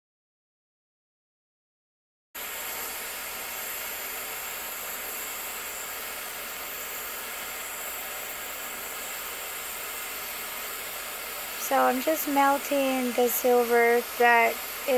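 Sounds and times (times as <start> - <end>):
gas torch flame hissing: 2.4 - 14.9.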